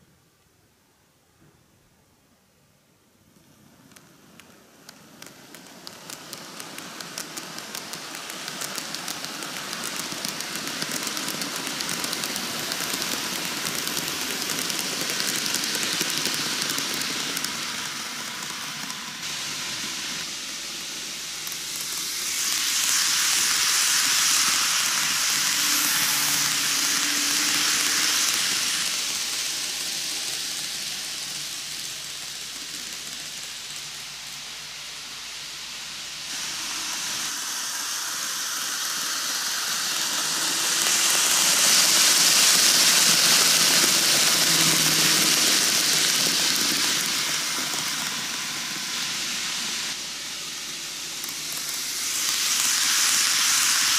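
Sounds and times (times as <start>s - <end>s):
model train whirring: 3.3s - 53.9s.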